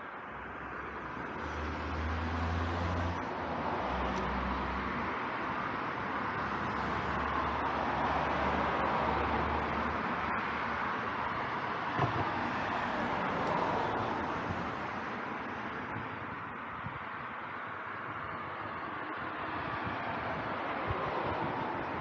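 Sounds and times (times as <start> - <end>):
road traffic hum: 0.0 - 22.0.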